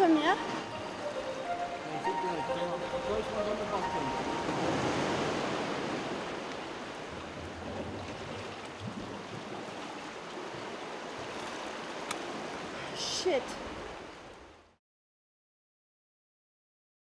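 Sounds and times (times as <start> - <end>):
sea water washing: 0.0 - 14.6.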